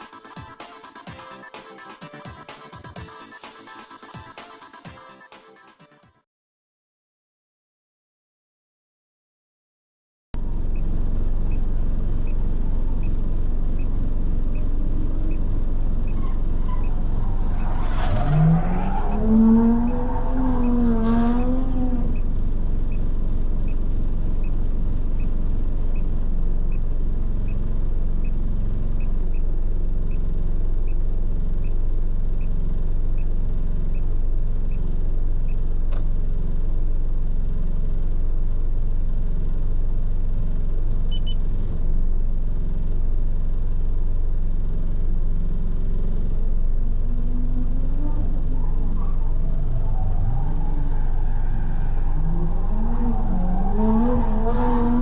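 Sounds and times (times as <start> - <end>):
truck engine and tyres droning: 10.4 - 55.0.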